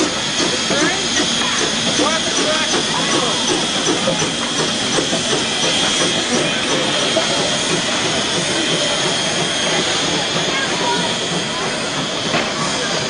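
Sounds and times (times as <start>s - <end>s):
faint voices: 0.0s - 13.0s
steam locomotive hissing: 0.0s - 13.0s.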